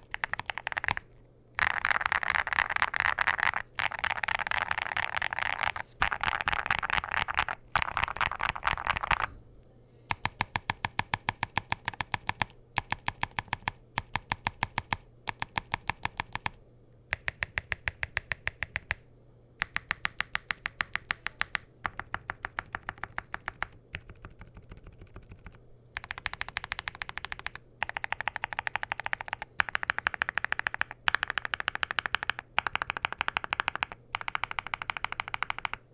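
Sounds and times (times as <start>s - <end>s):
typing on mechanical keyboard: 0.0s - 1.0s, 1.6s - 9.3s, 10.1s - 19.0s, 19.6s - 35.9s.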